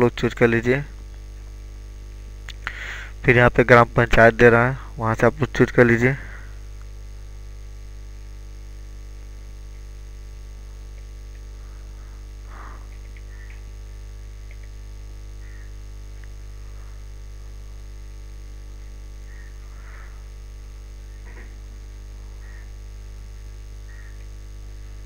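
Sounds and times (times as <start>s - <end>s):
electrical mains hum: 0.0s - 25.0s
faint steady tones: 0.0s - 25.0s.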